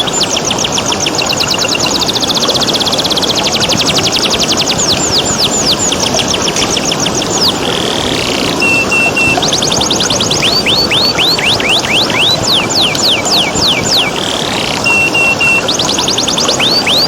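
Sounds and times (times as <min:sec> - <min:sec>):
canary singing: 0:00.0 - 0:17.0
flowing water: 0:00.0 - 0:17.0.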